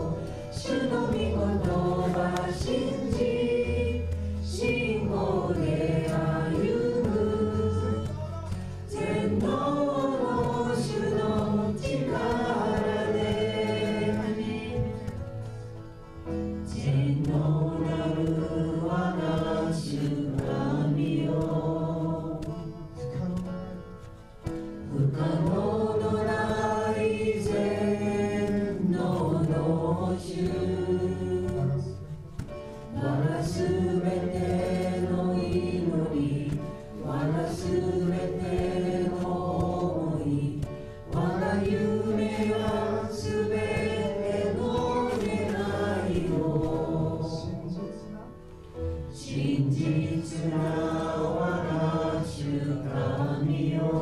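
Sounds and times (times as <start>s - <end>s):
group singing worship song: 0.0s - 54.0s
instrumental backing: 0.0s - 54.0s.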